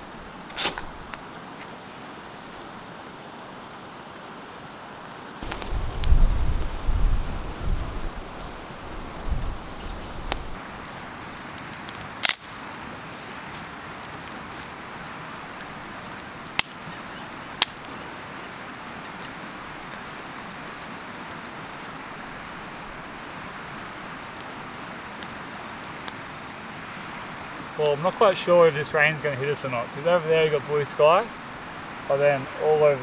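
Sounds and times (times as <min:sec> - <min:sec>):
campfire crackling and popping: 0:00.0 - 0:01.6, 0:05.4 - 0:33.0
steady background hiss: 0:00.0 - 0:33.0.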